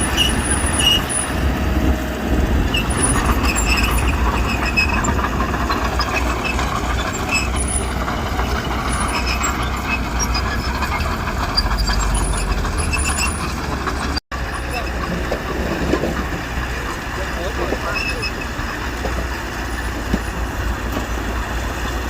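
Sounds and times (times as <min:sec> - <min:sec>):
heavy machinery diesel engine rumble: 0:00.0 - 0:22.0.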